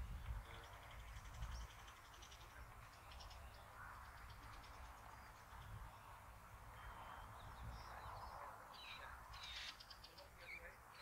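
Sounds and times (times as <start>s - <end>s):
wind rumble: 0.0s - 9.4s.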